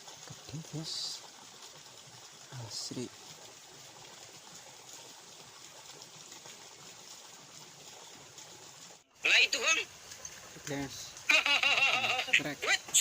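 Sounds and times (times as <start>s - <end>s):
water trickling in a ditch: 0.0s - 13.0s.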